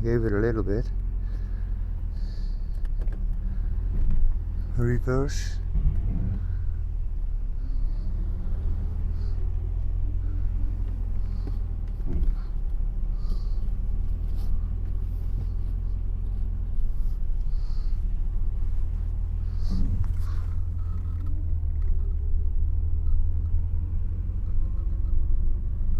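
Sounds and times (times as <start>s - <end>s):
car engine idling low: 0.0s - 25.9s.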